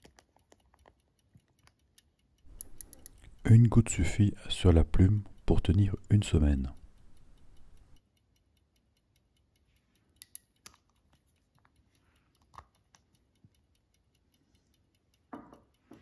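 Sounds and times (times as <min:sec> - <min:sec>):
clockwork ticking: 0:00.0 - 0:16.0
soft clicks: 0:00.0 - 0:16.0.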